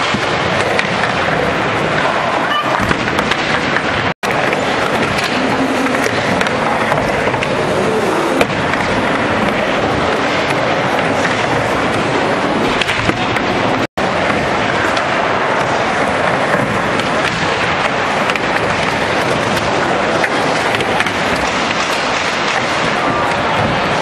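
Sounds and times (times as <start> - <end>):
skateboard rolling on wooden ramp: 0.0 - 24.0.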